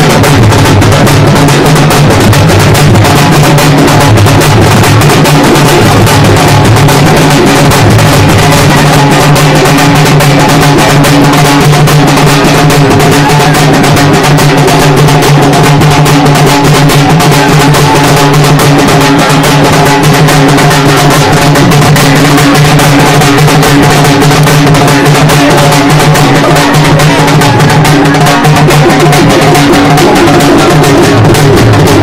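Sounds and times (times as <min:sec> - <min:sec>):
frame drums playing fast rhythm: 0:00.0 - 0:32.0.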